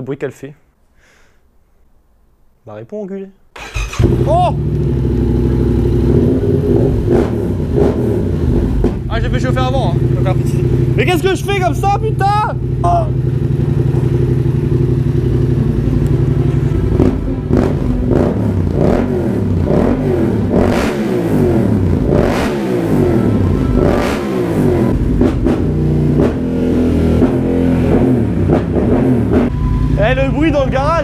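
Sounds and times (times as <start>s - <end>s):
motorcycle engine idling and revving: 3.6s - 31.0s.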